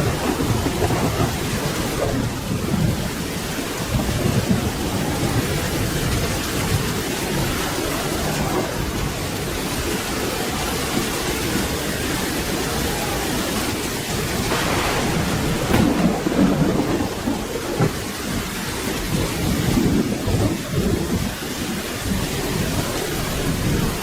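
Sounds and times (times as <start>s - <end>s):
rolling thunder: 0.0s - 24.0s
steady rain: 0.0s - 24.0s.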